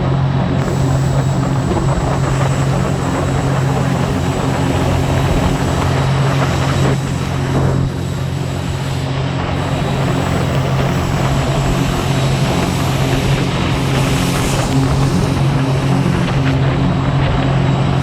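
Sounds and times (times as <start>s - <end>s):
boat engine running at high speed: 0.0s - 18.0s
rushing water noise: 0.0s - 18.0s.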